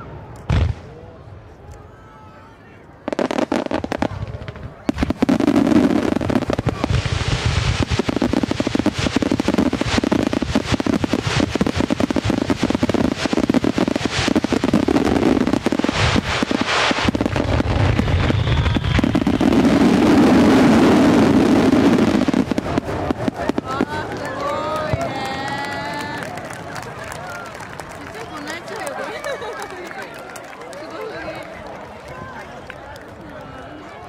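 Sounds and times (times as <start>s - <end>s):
fireworks bursting and crackling: 0.0s - 1.0s, 3.0s - 32.4s.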